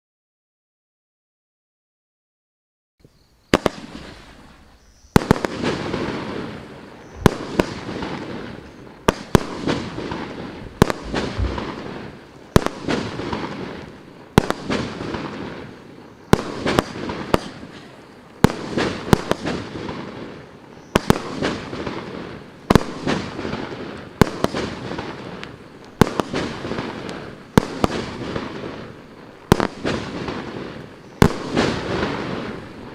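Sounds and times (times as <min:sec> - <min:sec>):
firework bangs: 0:03.5 - 0:32.9.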